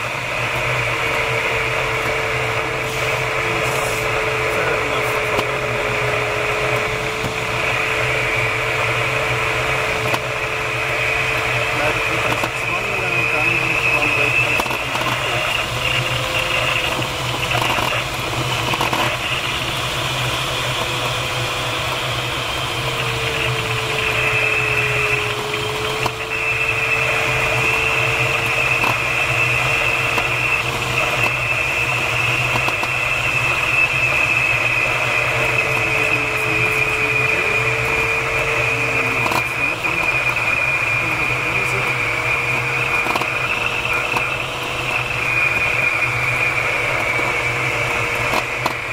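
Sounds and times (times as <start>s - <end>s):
airflow rushing around glider canopy: 0.0s - 48.9s.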